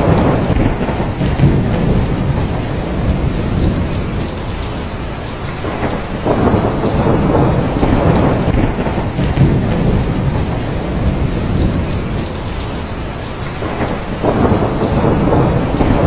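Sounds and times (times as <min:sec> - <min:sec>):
heavy rain falling: 0:00.0 - 0:16.0
thunder rumbling: 0:00.0 - 0:16.0.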